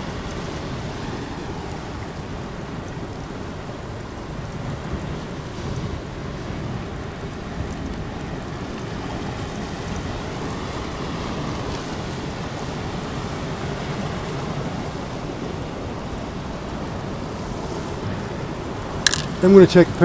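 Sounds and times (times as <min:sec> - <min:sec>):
sea surf breaking on rocks: 0:00.0 - 0:20.0
wind noise on microphone: 0:00.0 - 0:20.0.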